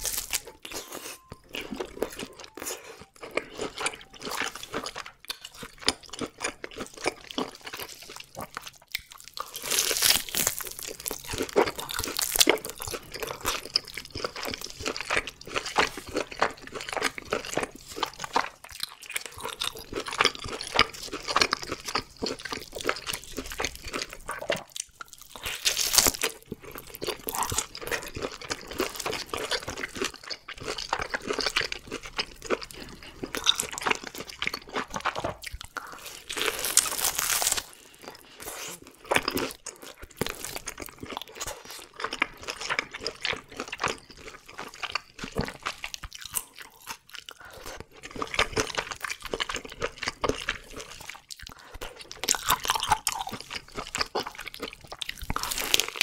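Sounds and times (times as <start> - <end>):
chewing with wet mouth sounds: 0.0 - 56.0.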